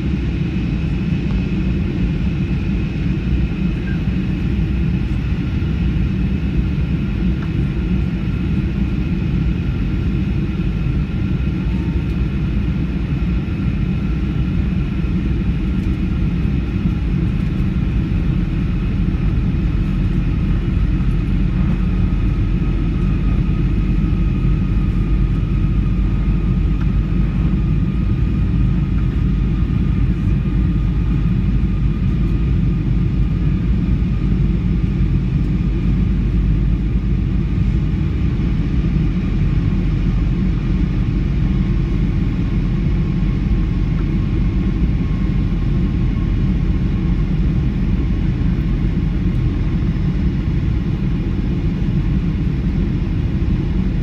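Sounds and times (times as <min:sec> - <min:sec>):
engine and airflow rumble: 0:00.0 - 0:54.0.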